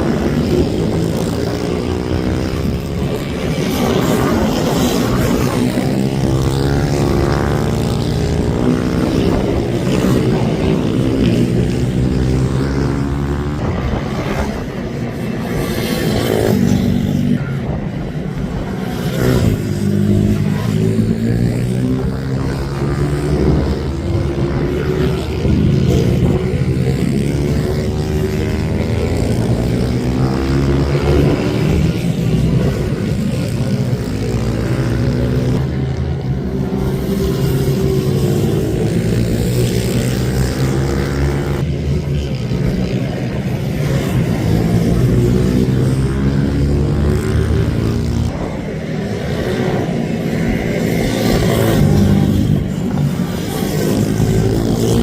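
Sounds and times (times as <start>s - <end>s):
racing minibike engines revving: 0.0s - 55.0s.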